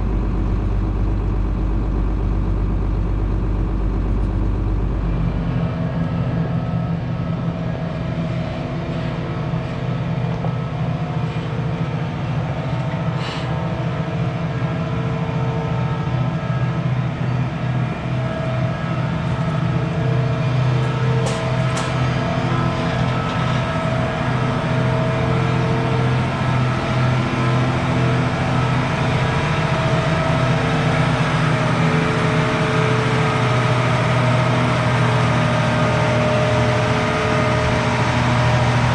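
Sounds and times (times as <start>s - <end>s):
large diesel engine running: 0.0s - 38.9s.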